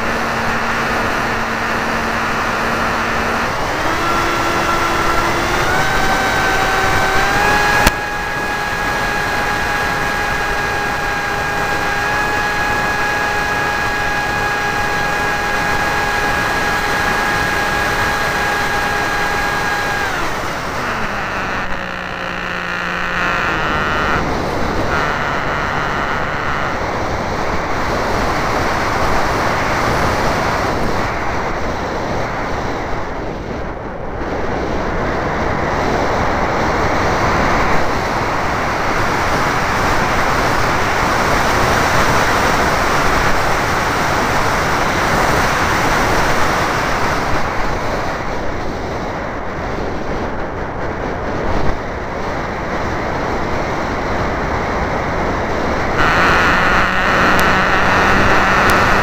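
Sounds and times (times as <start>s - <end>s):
model airplane motor: 0.0s - 33.4s, 34.6s - 49.0s, 52.4s - 59.0s.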